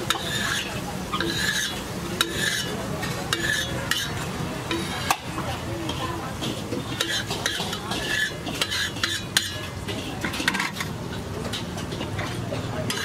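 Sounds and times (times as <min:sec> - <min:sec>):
metal spatula scraping griddle: 0:00.0 - 0:13.0.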